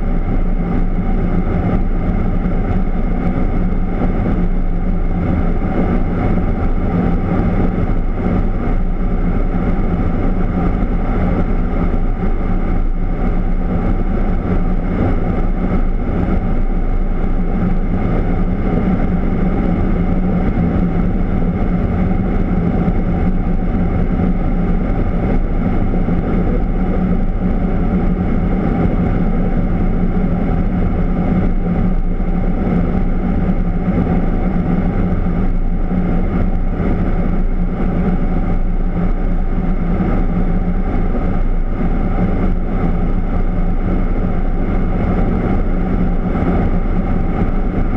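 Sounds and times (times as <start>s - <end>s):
jet aircraft cabin drone: 0.0s - 47.9s.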